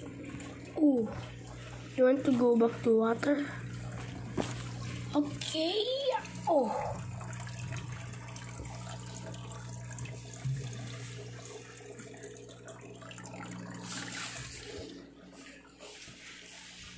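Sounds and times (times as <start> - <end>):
aquarium pump humming: 0.0 - 16.9
water trickling and splashing: 0.0 - 16.9.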